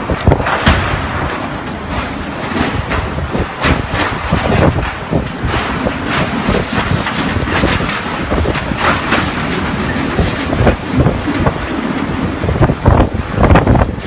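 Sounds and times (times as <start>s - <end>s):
clatter of knocks and rattles: 0.0s - 14.0s
strong wind buffeting microphone: 0.0s - 14.0s.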